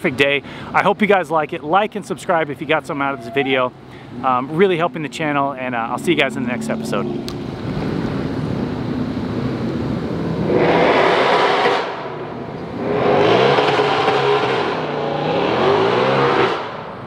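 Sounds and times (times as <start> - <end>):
car engine revving: 3.1 - 17.0.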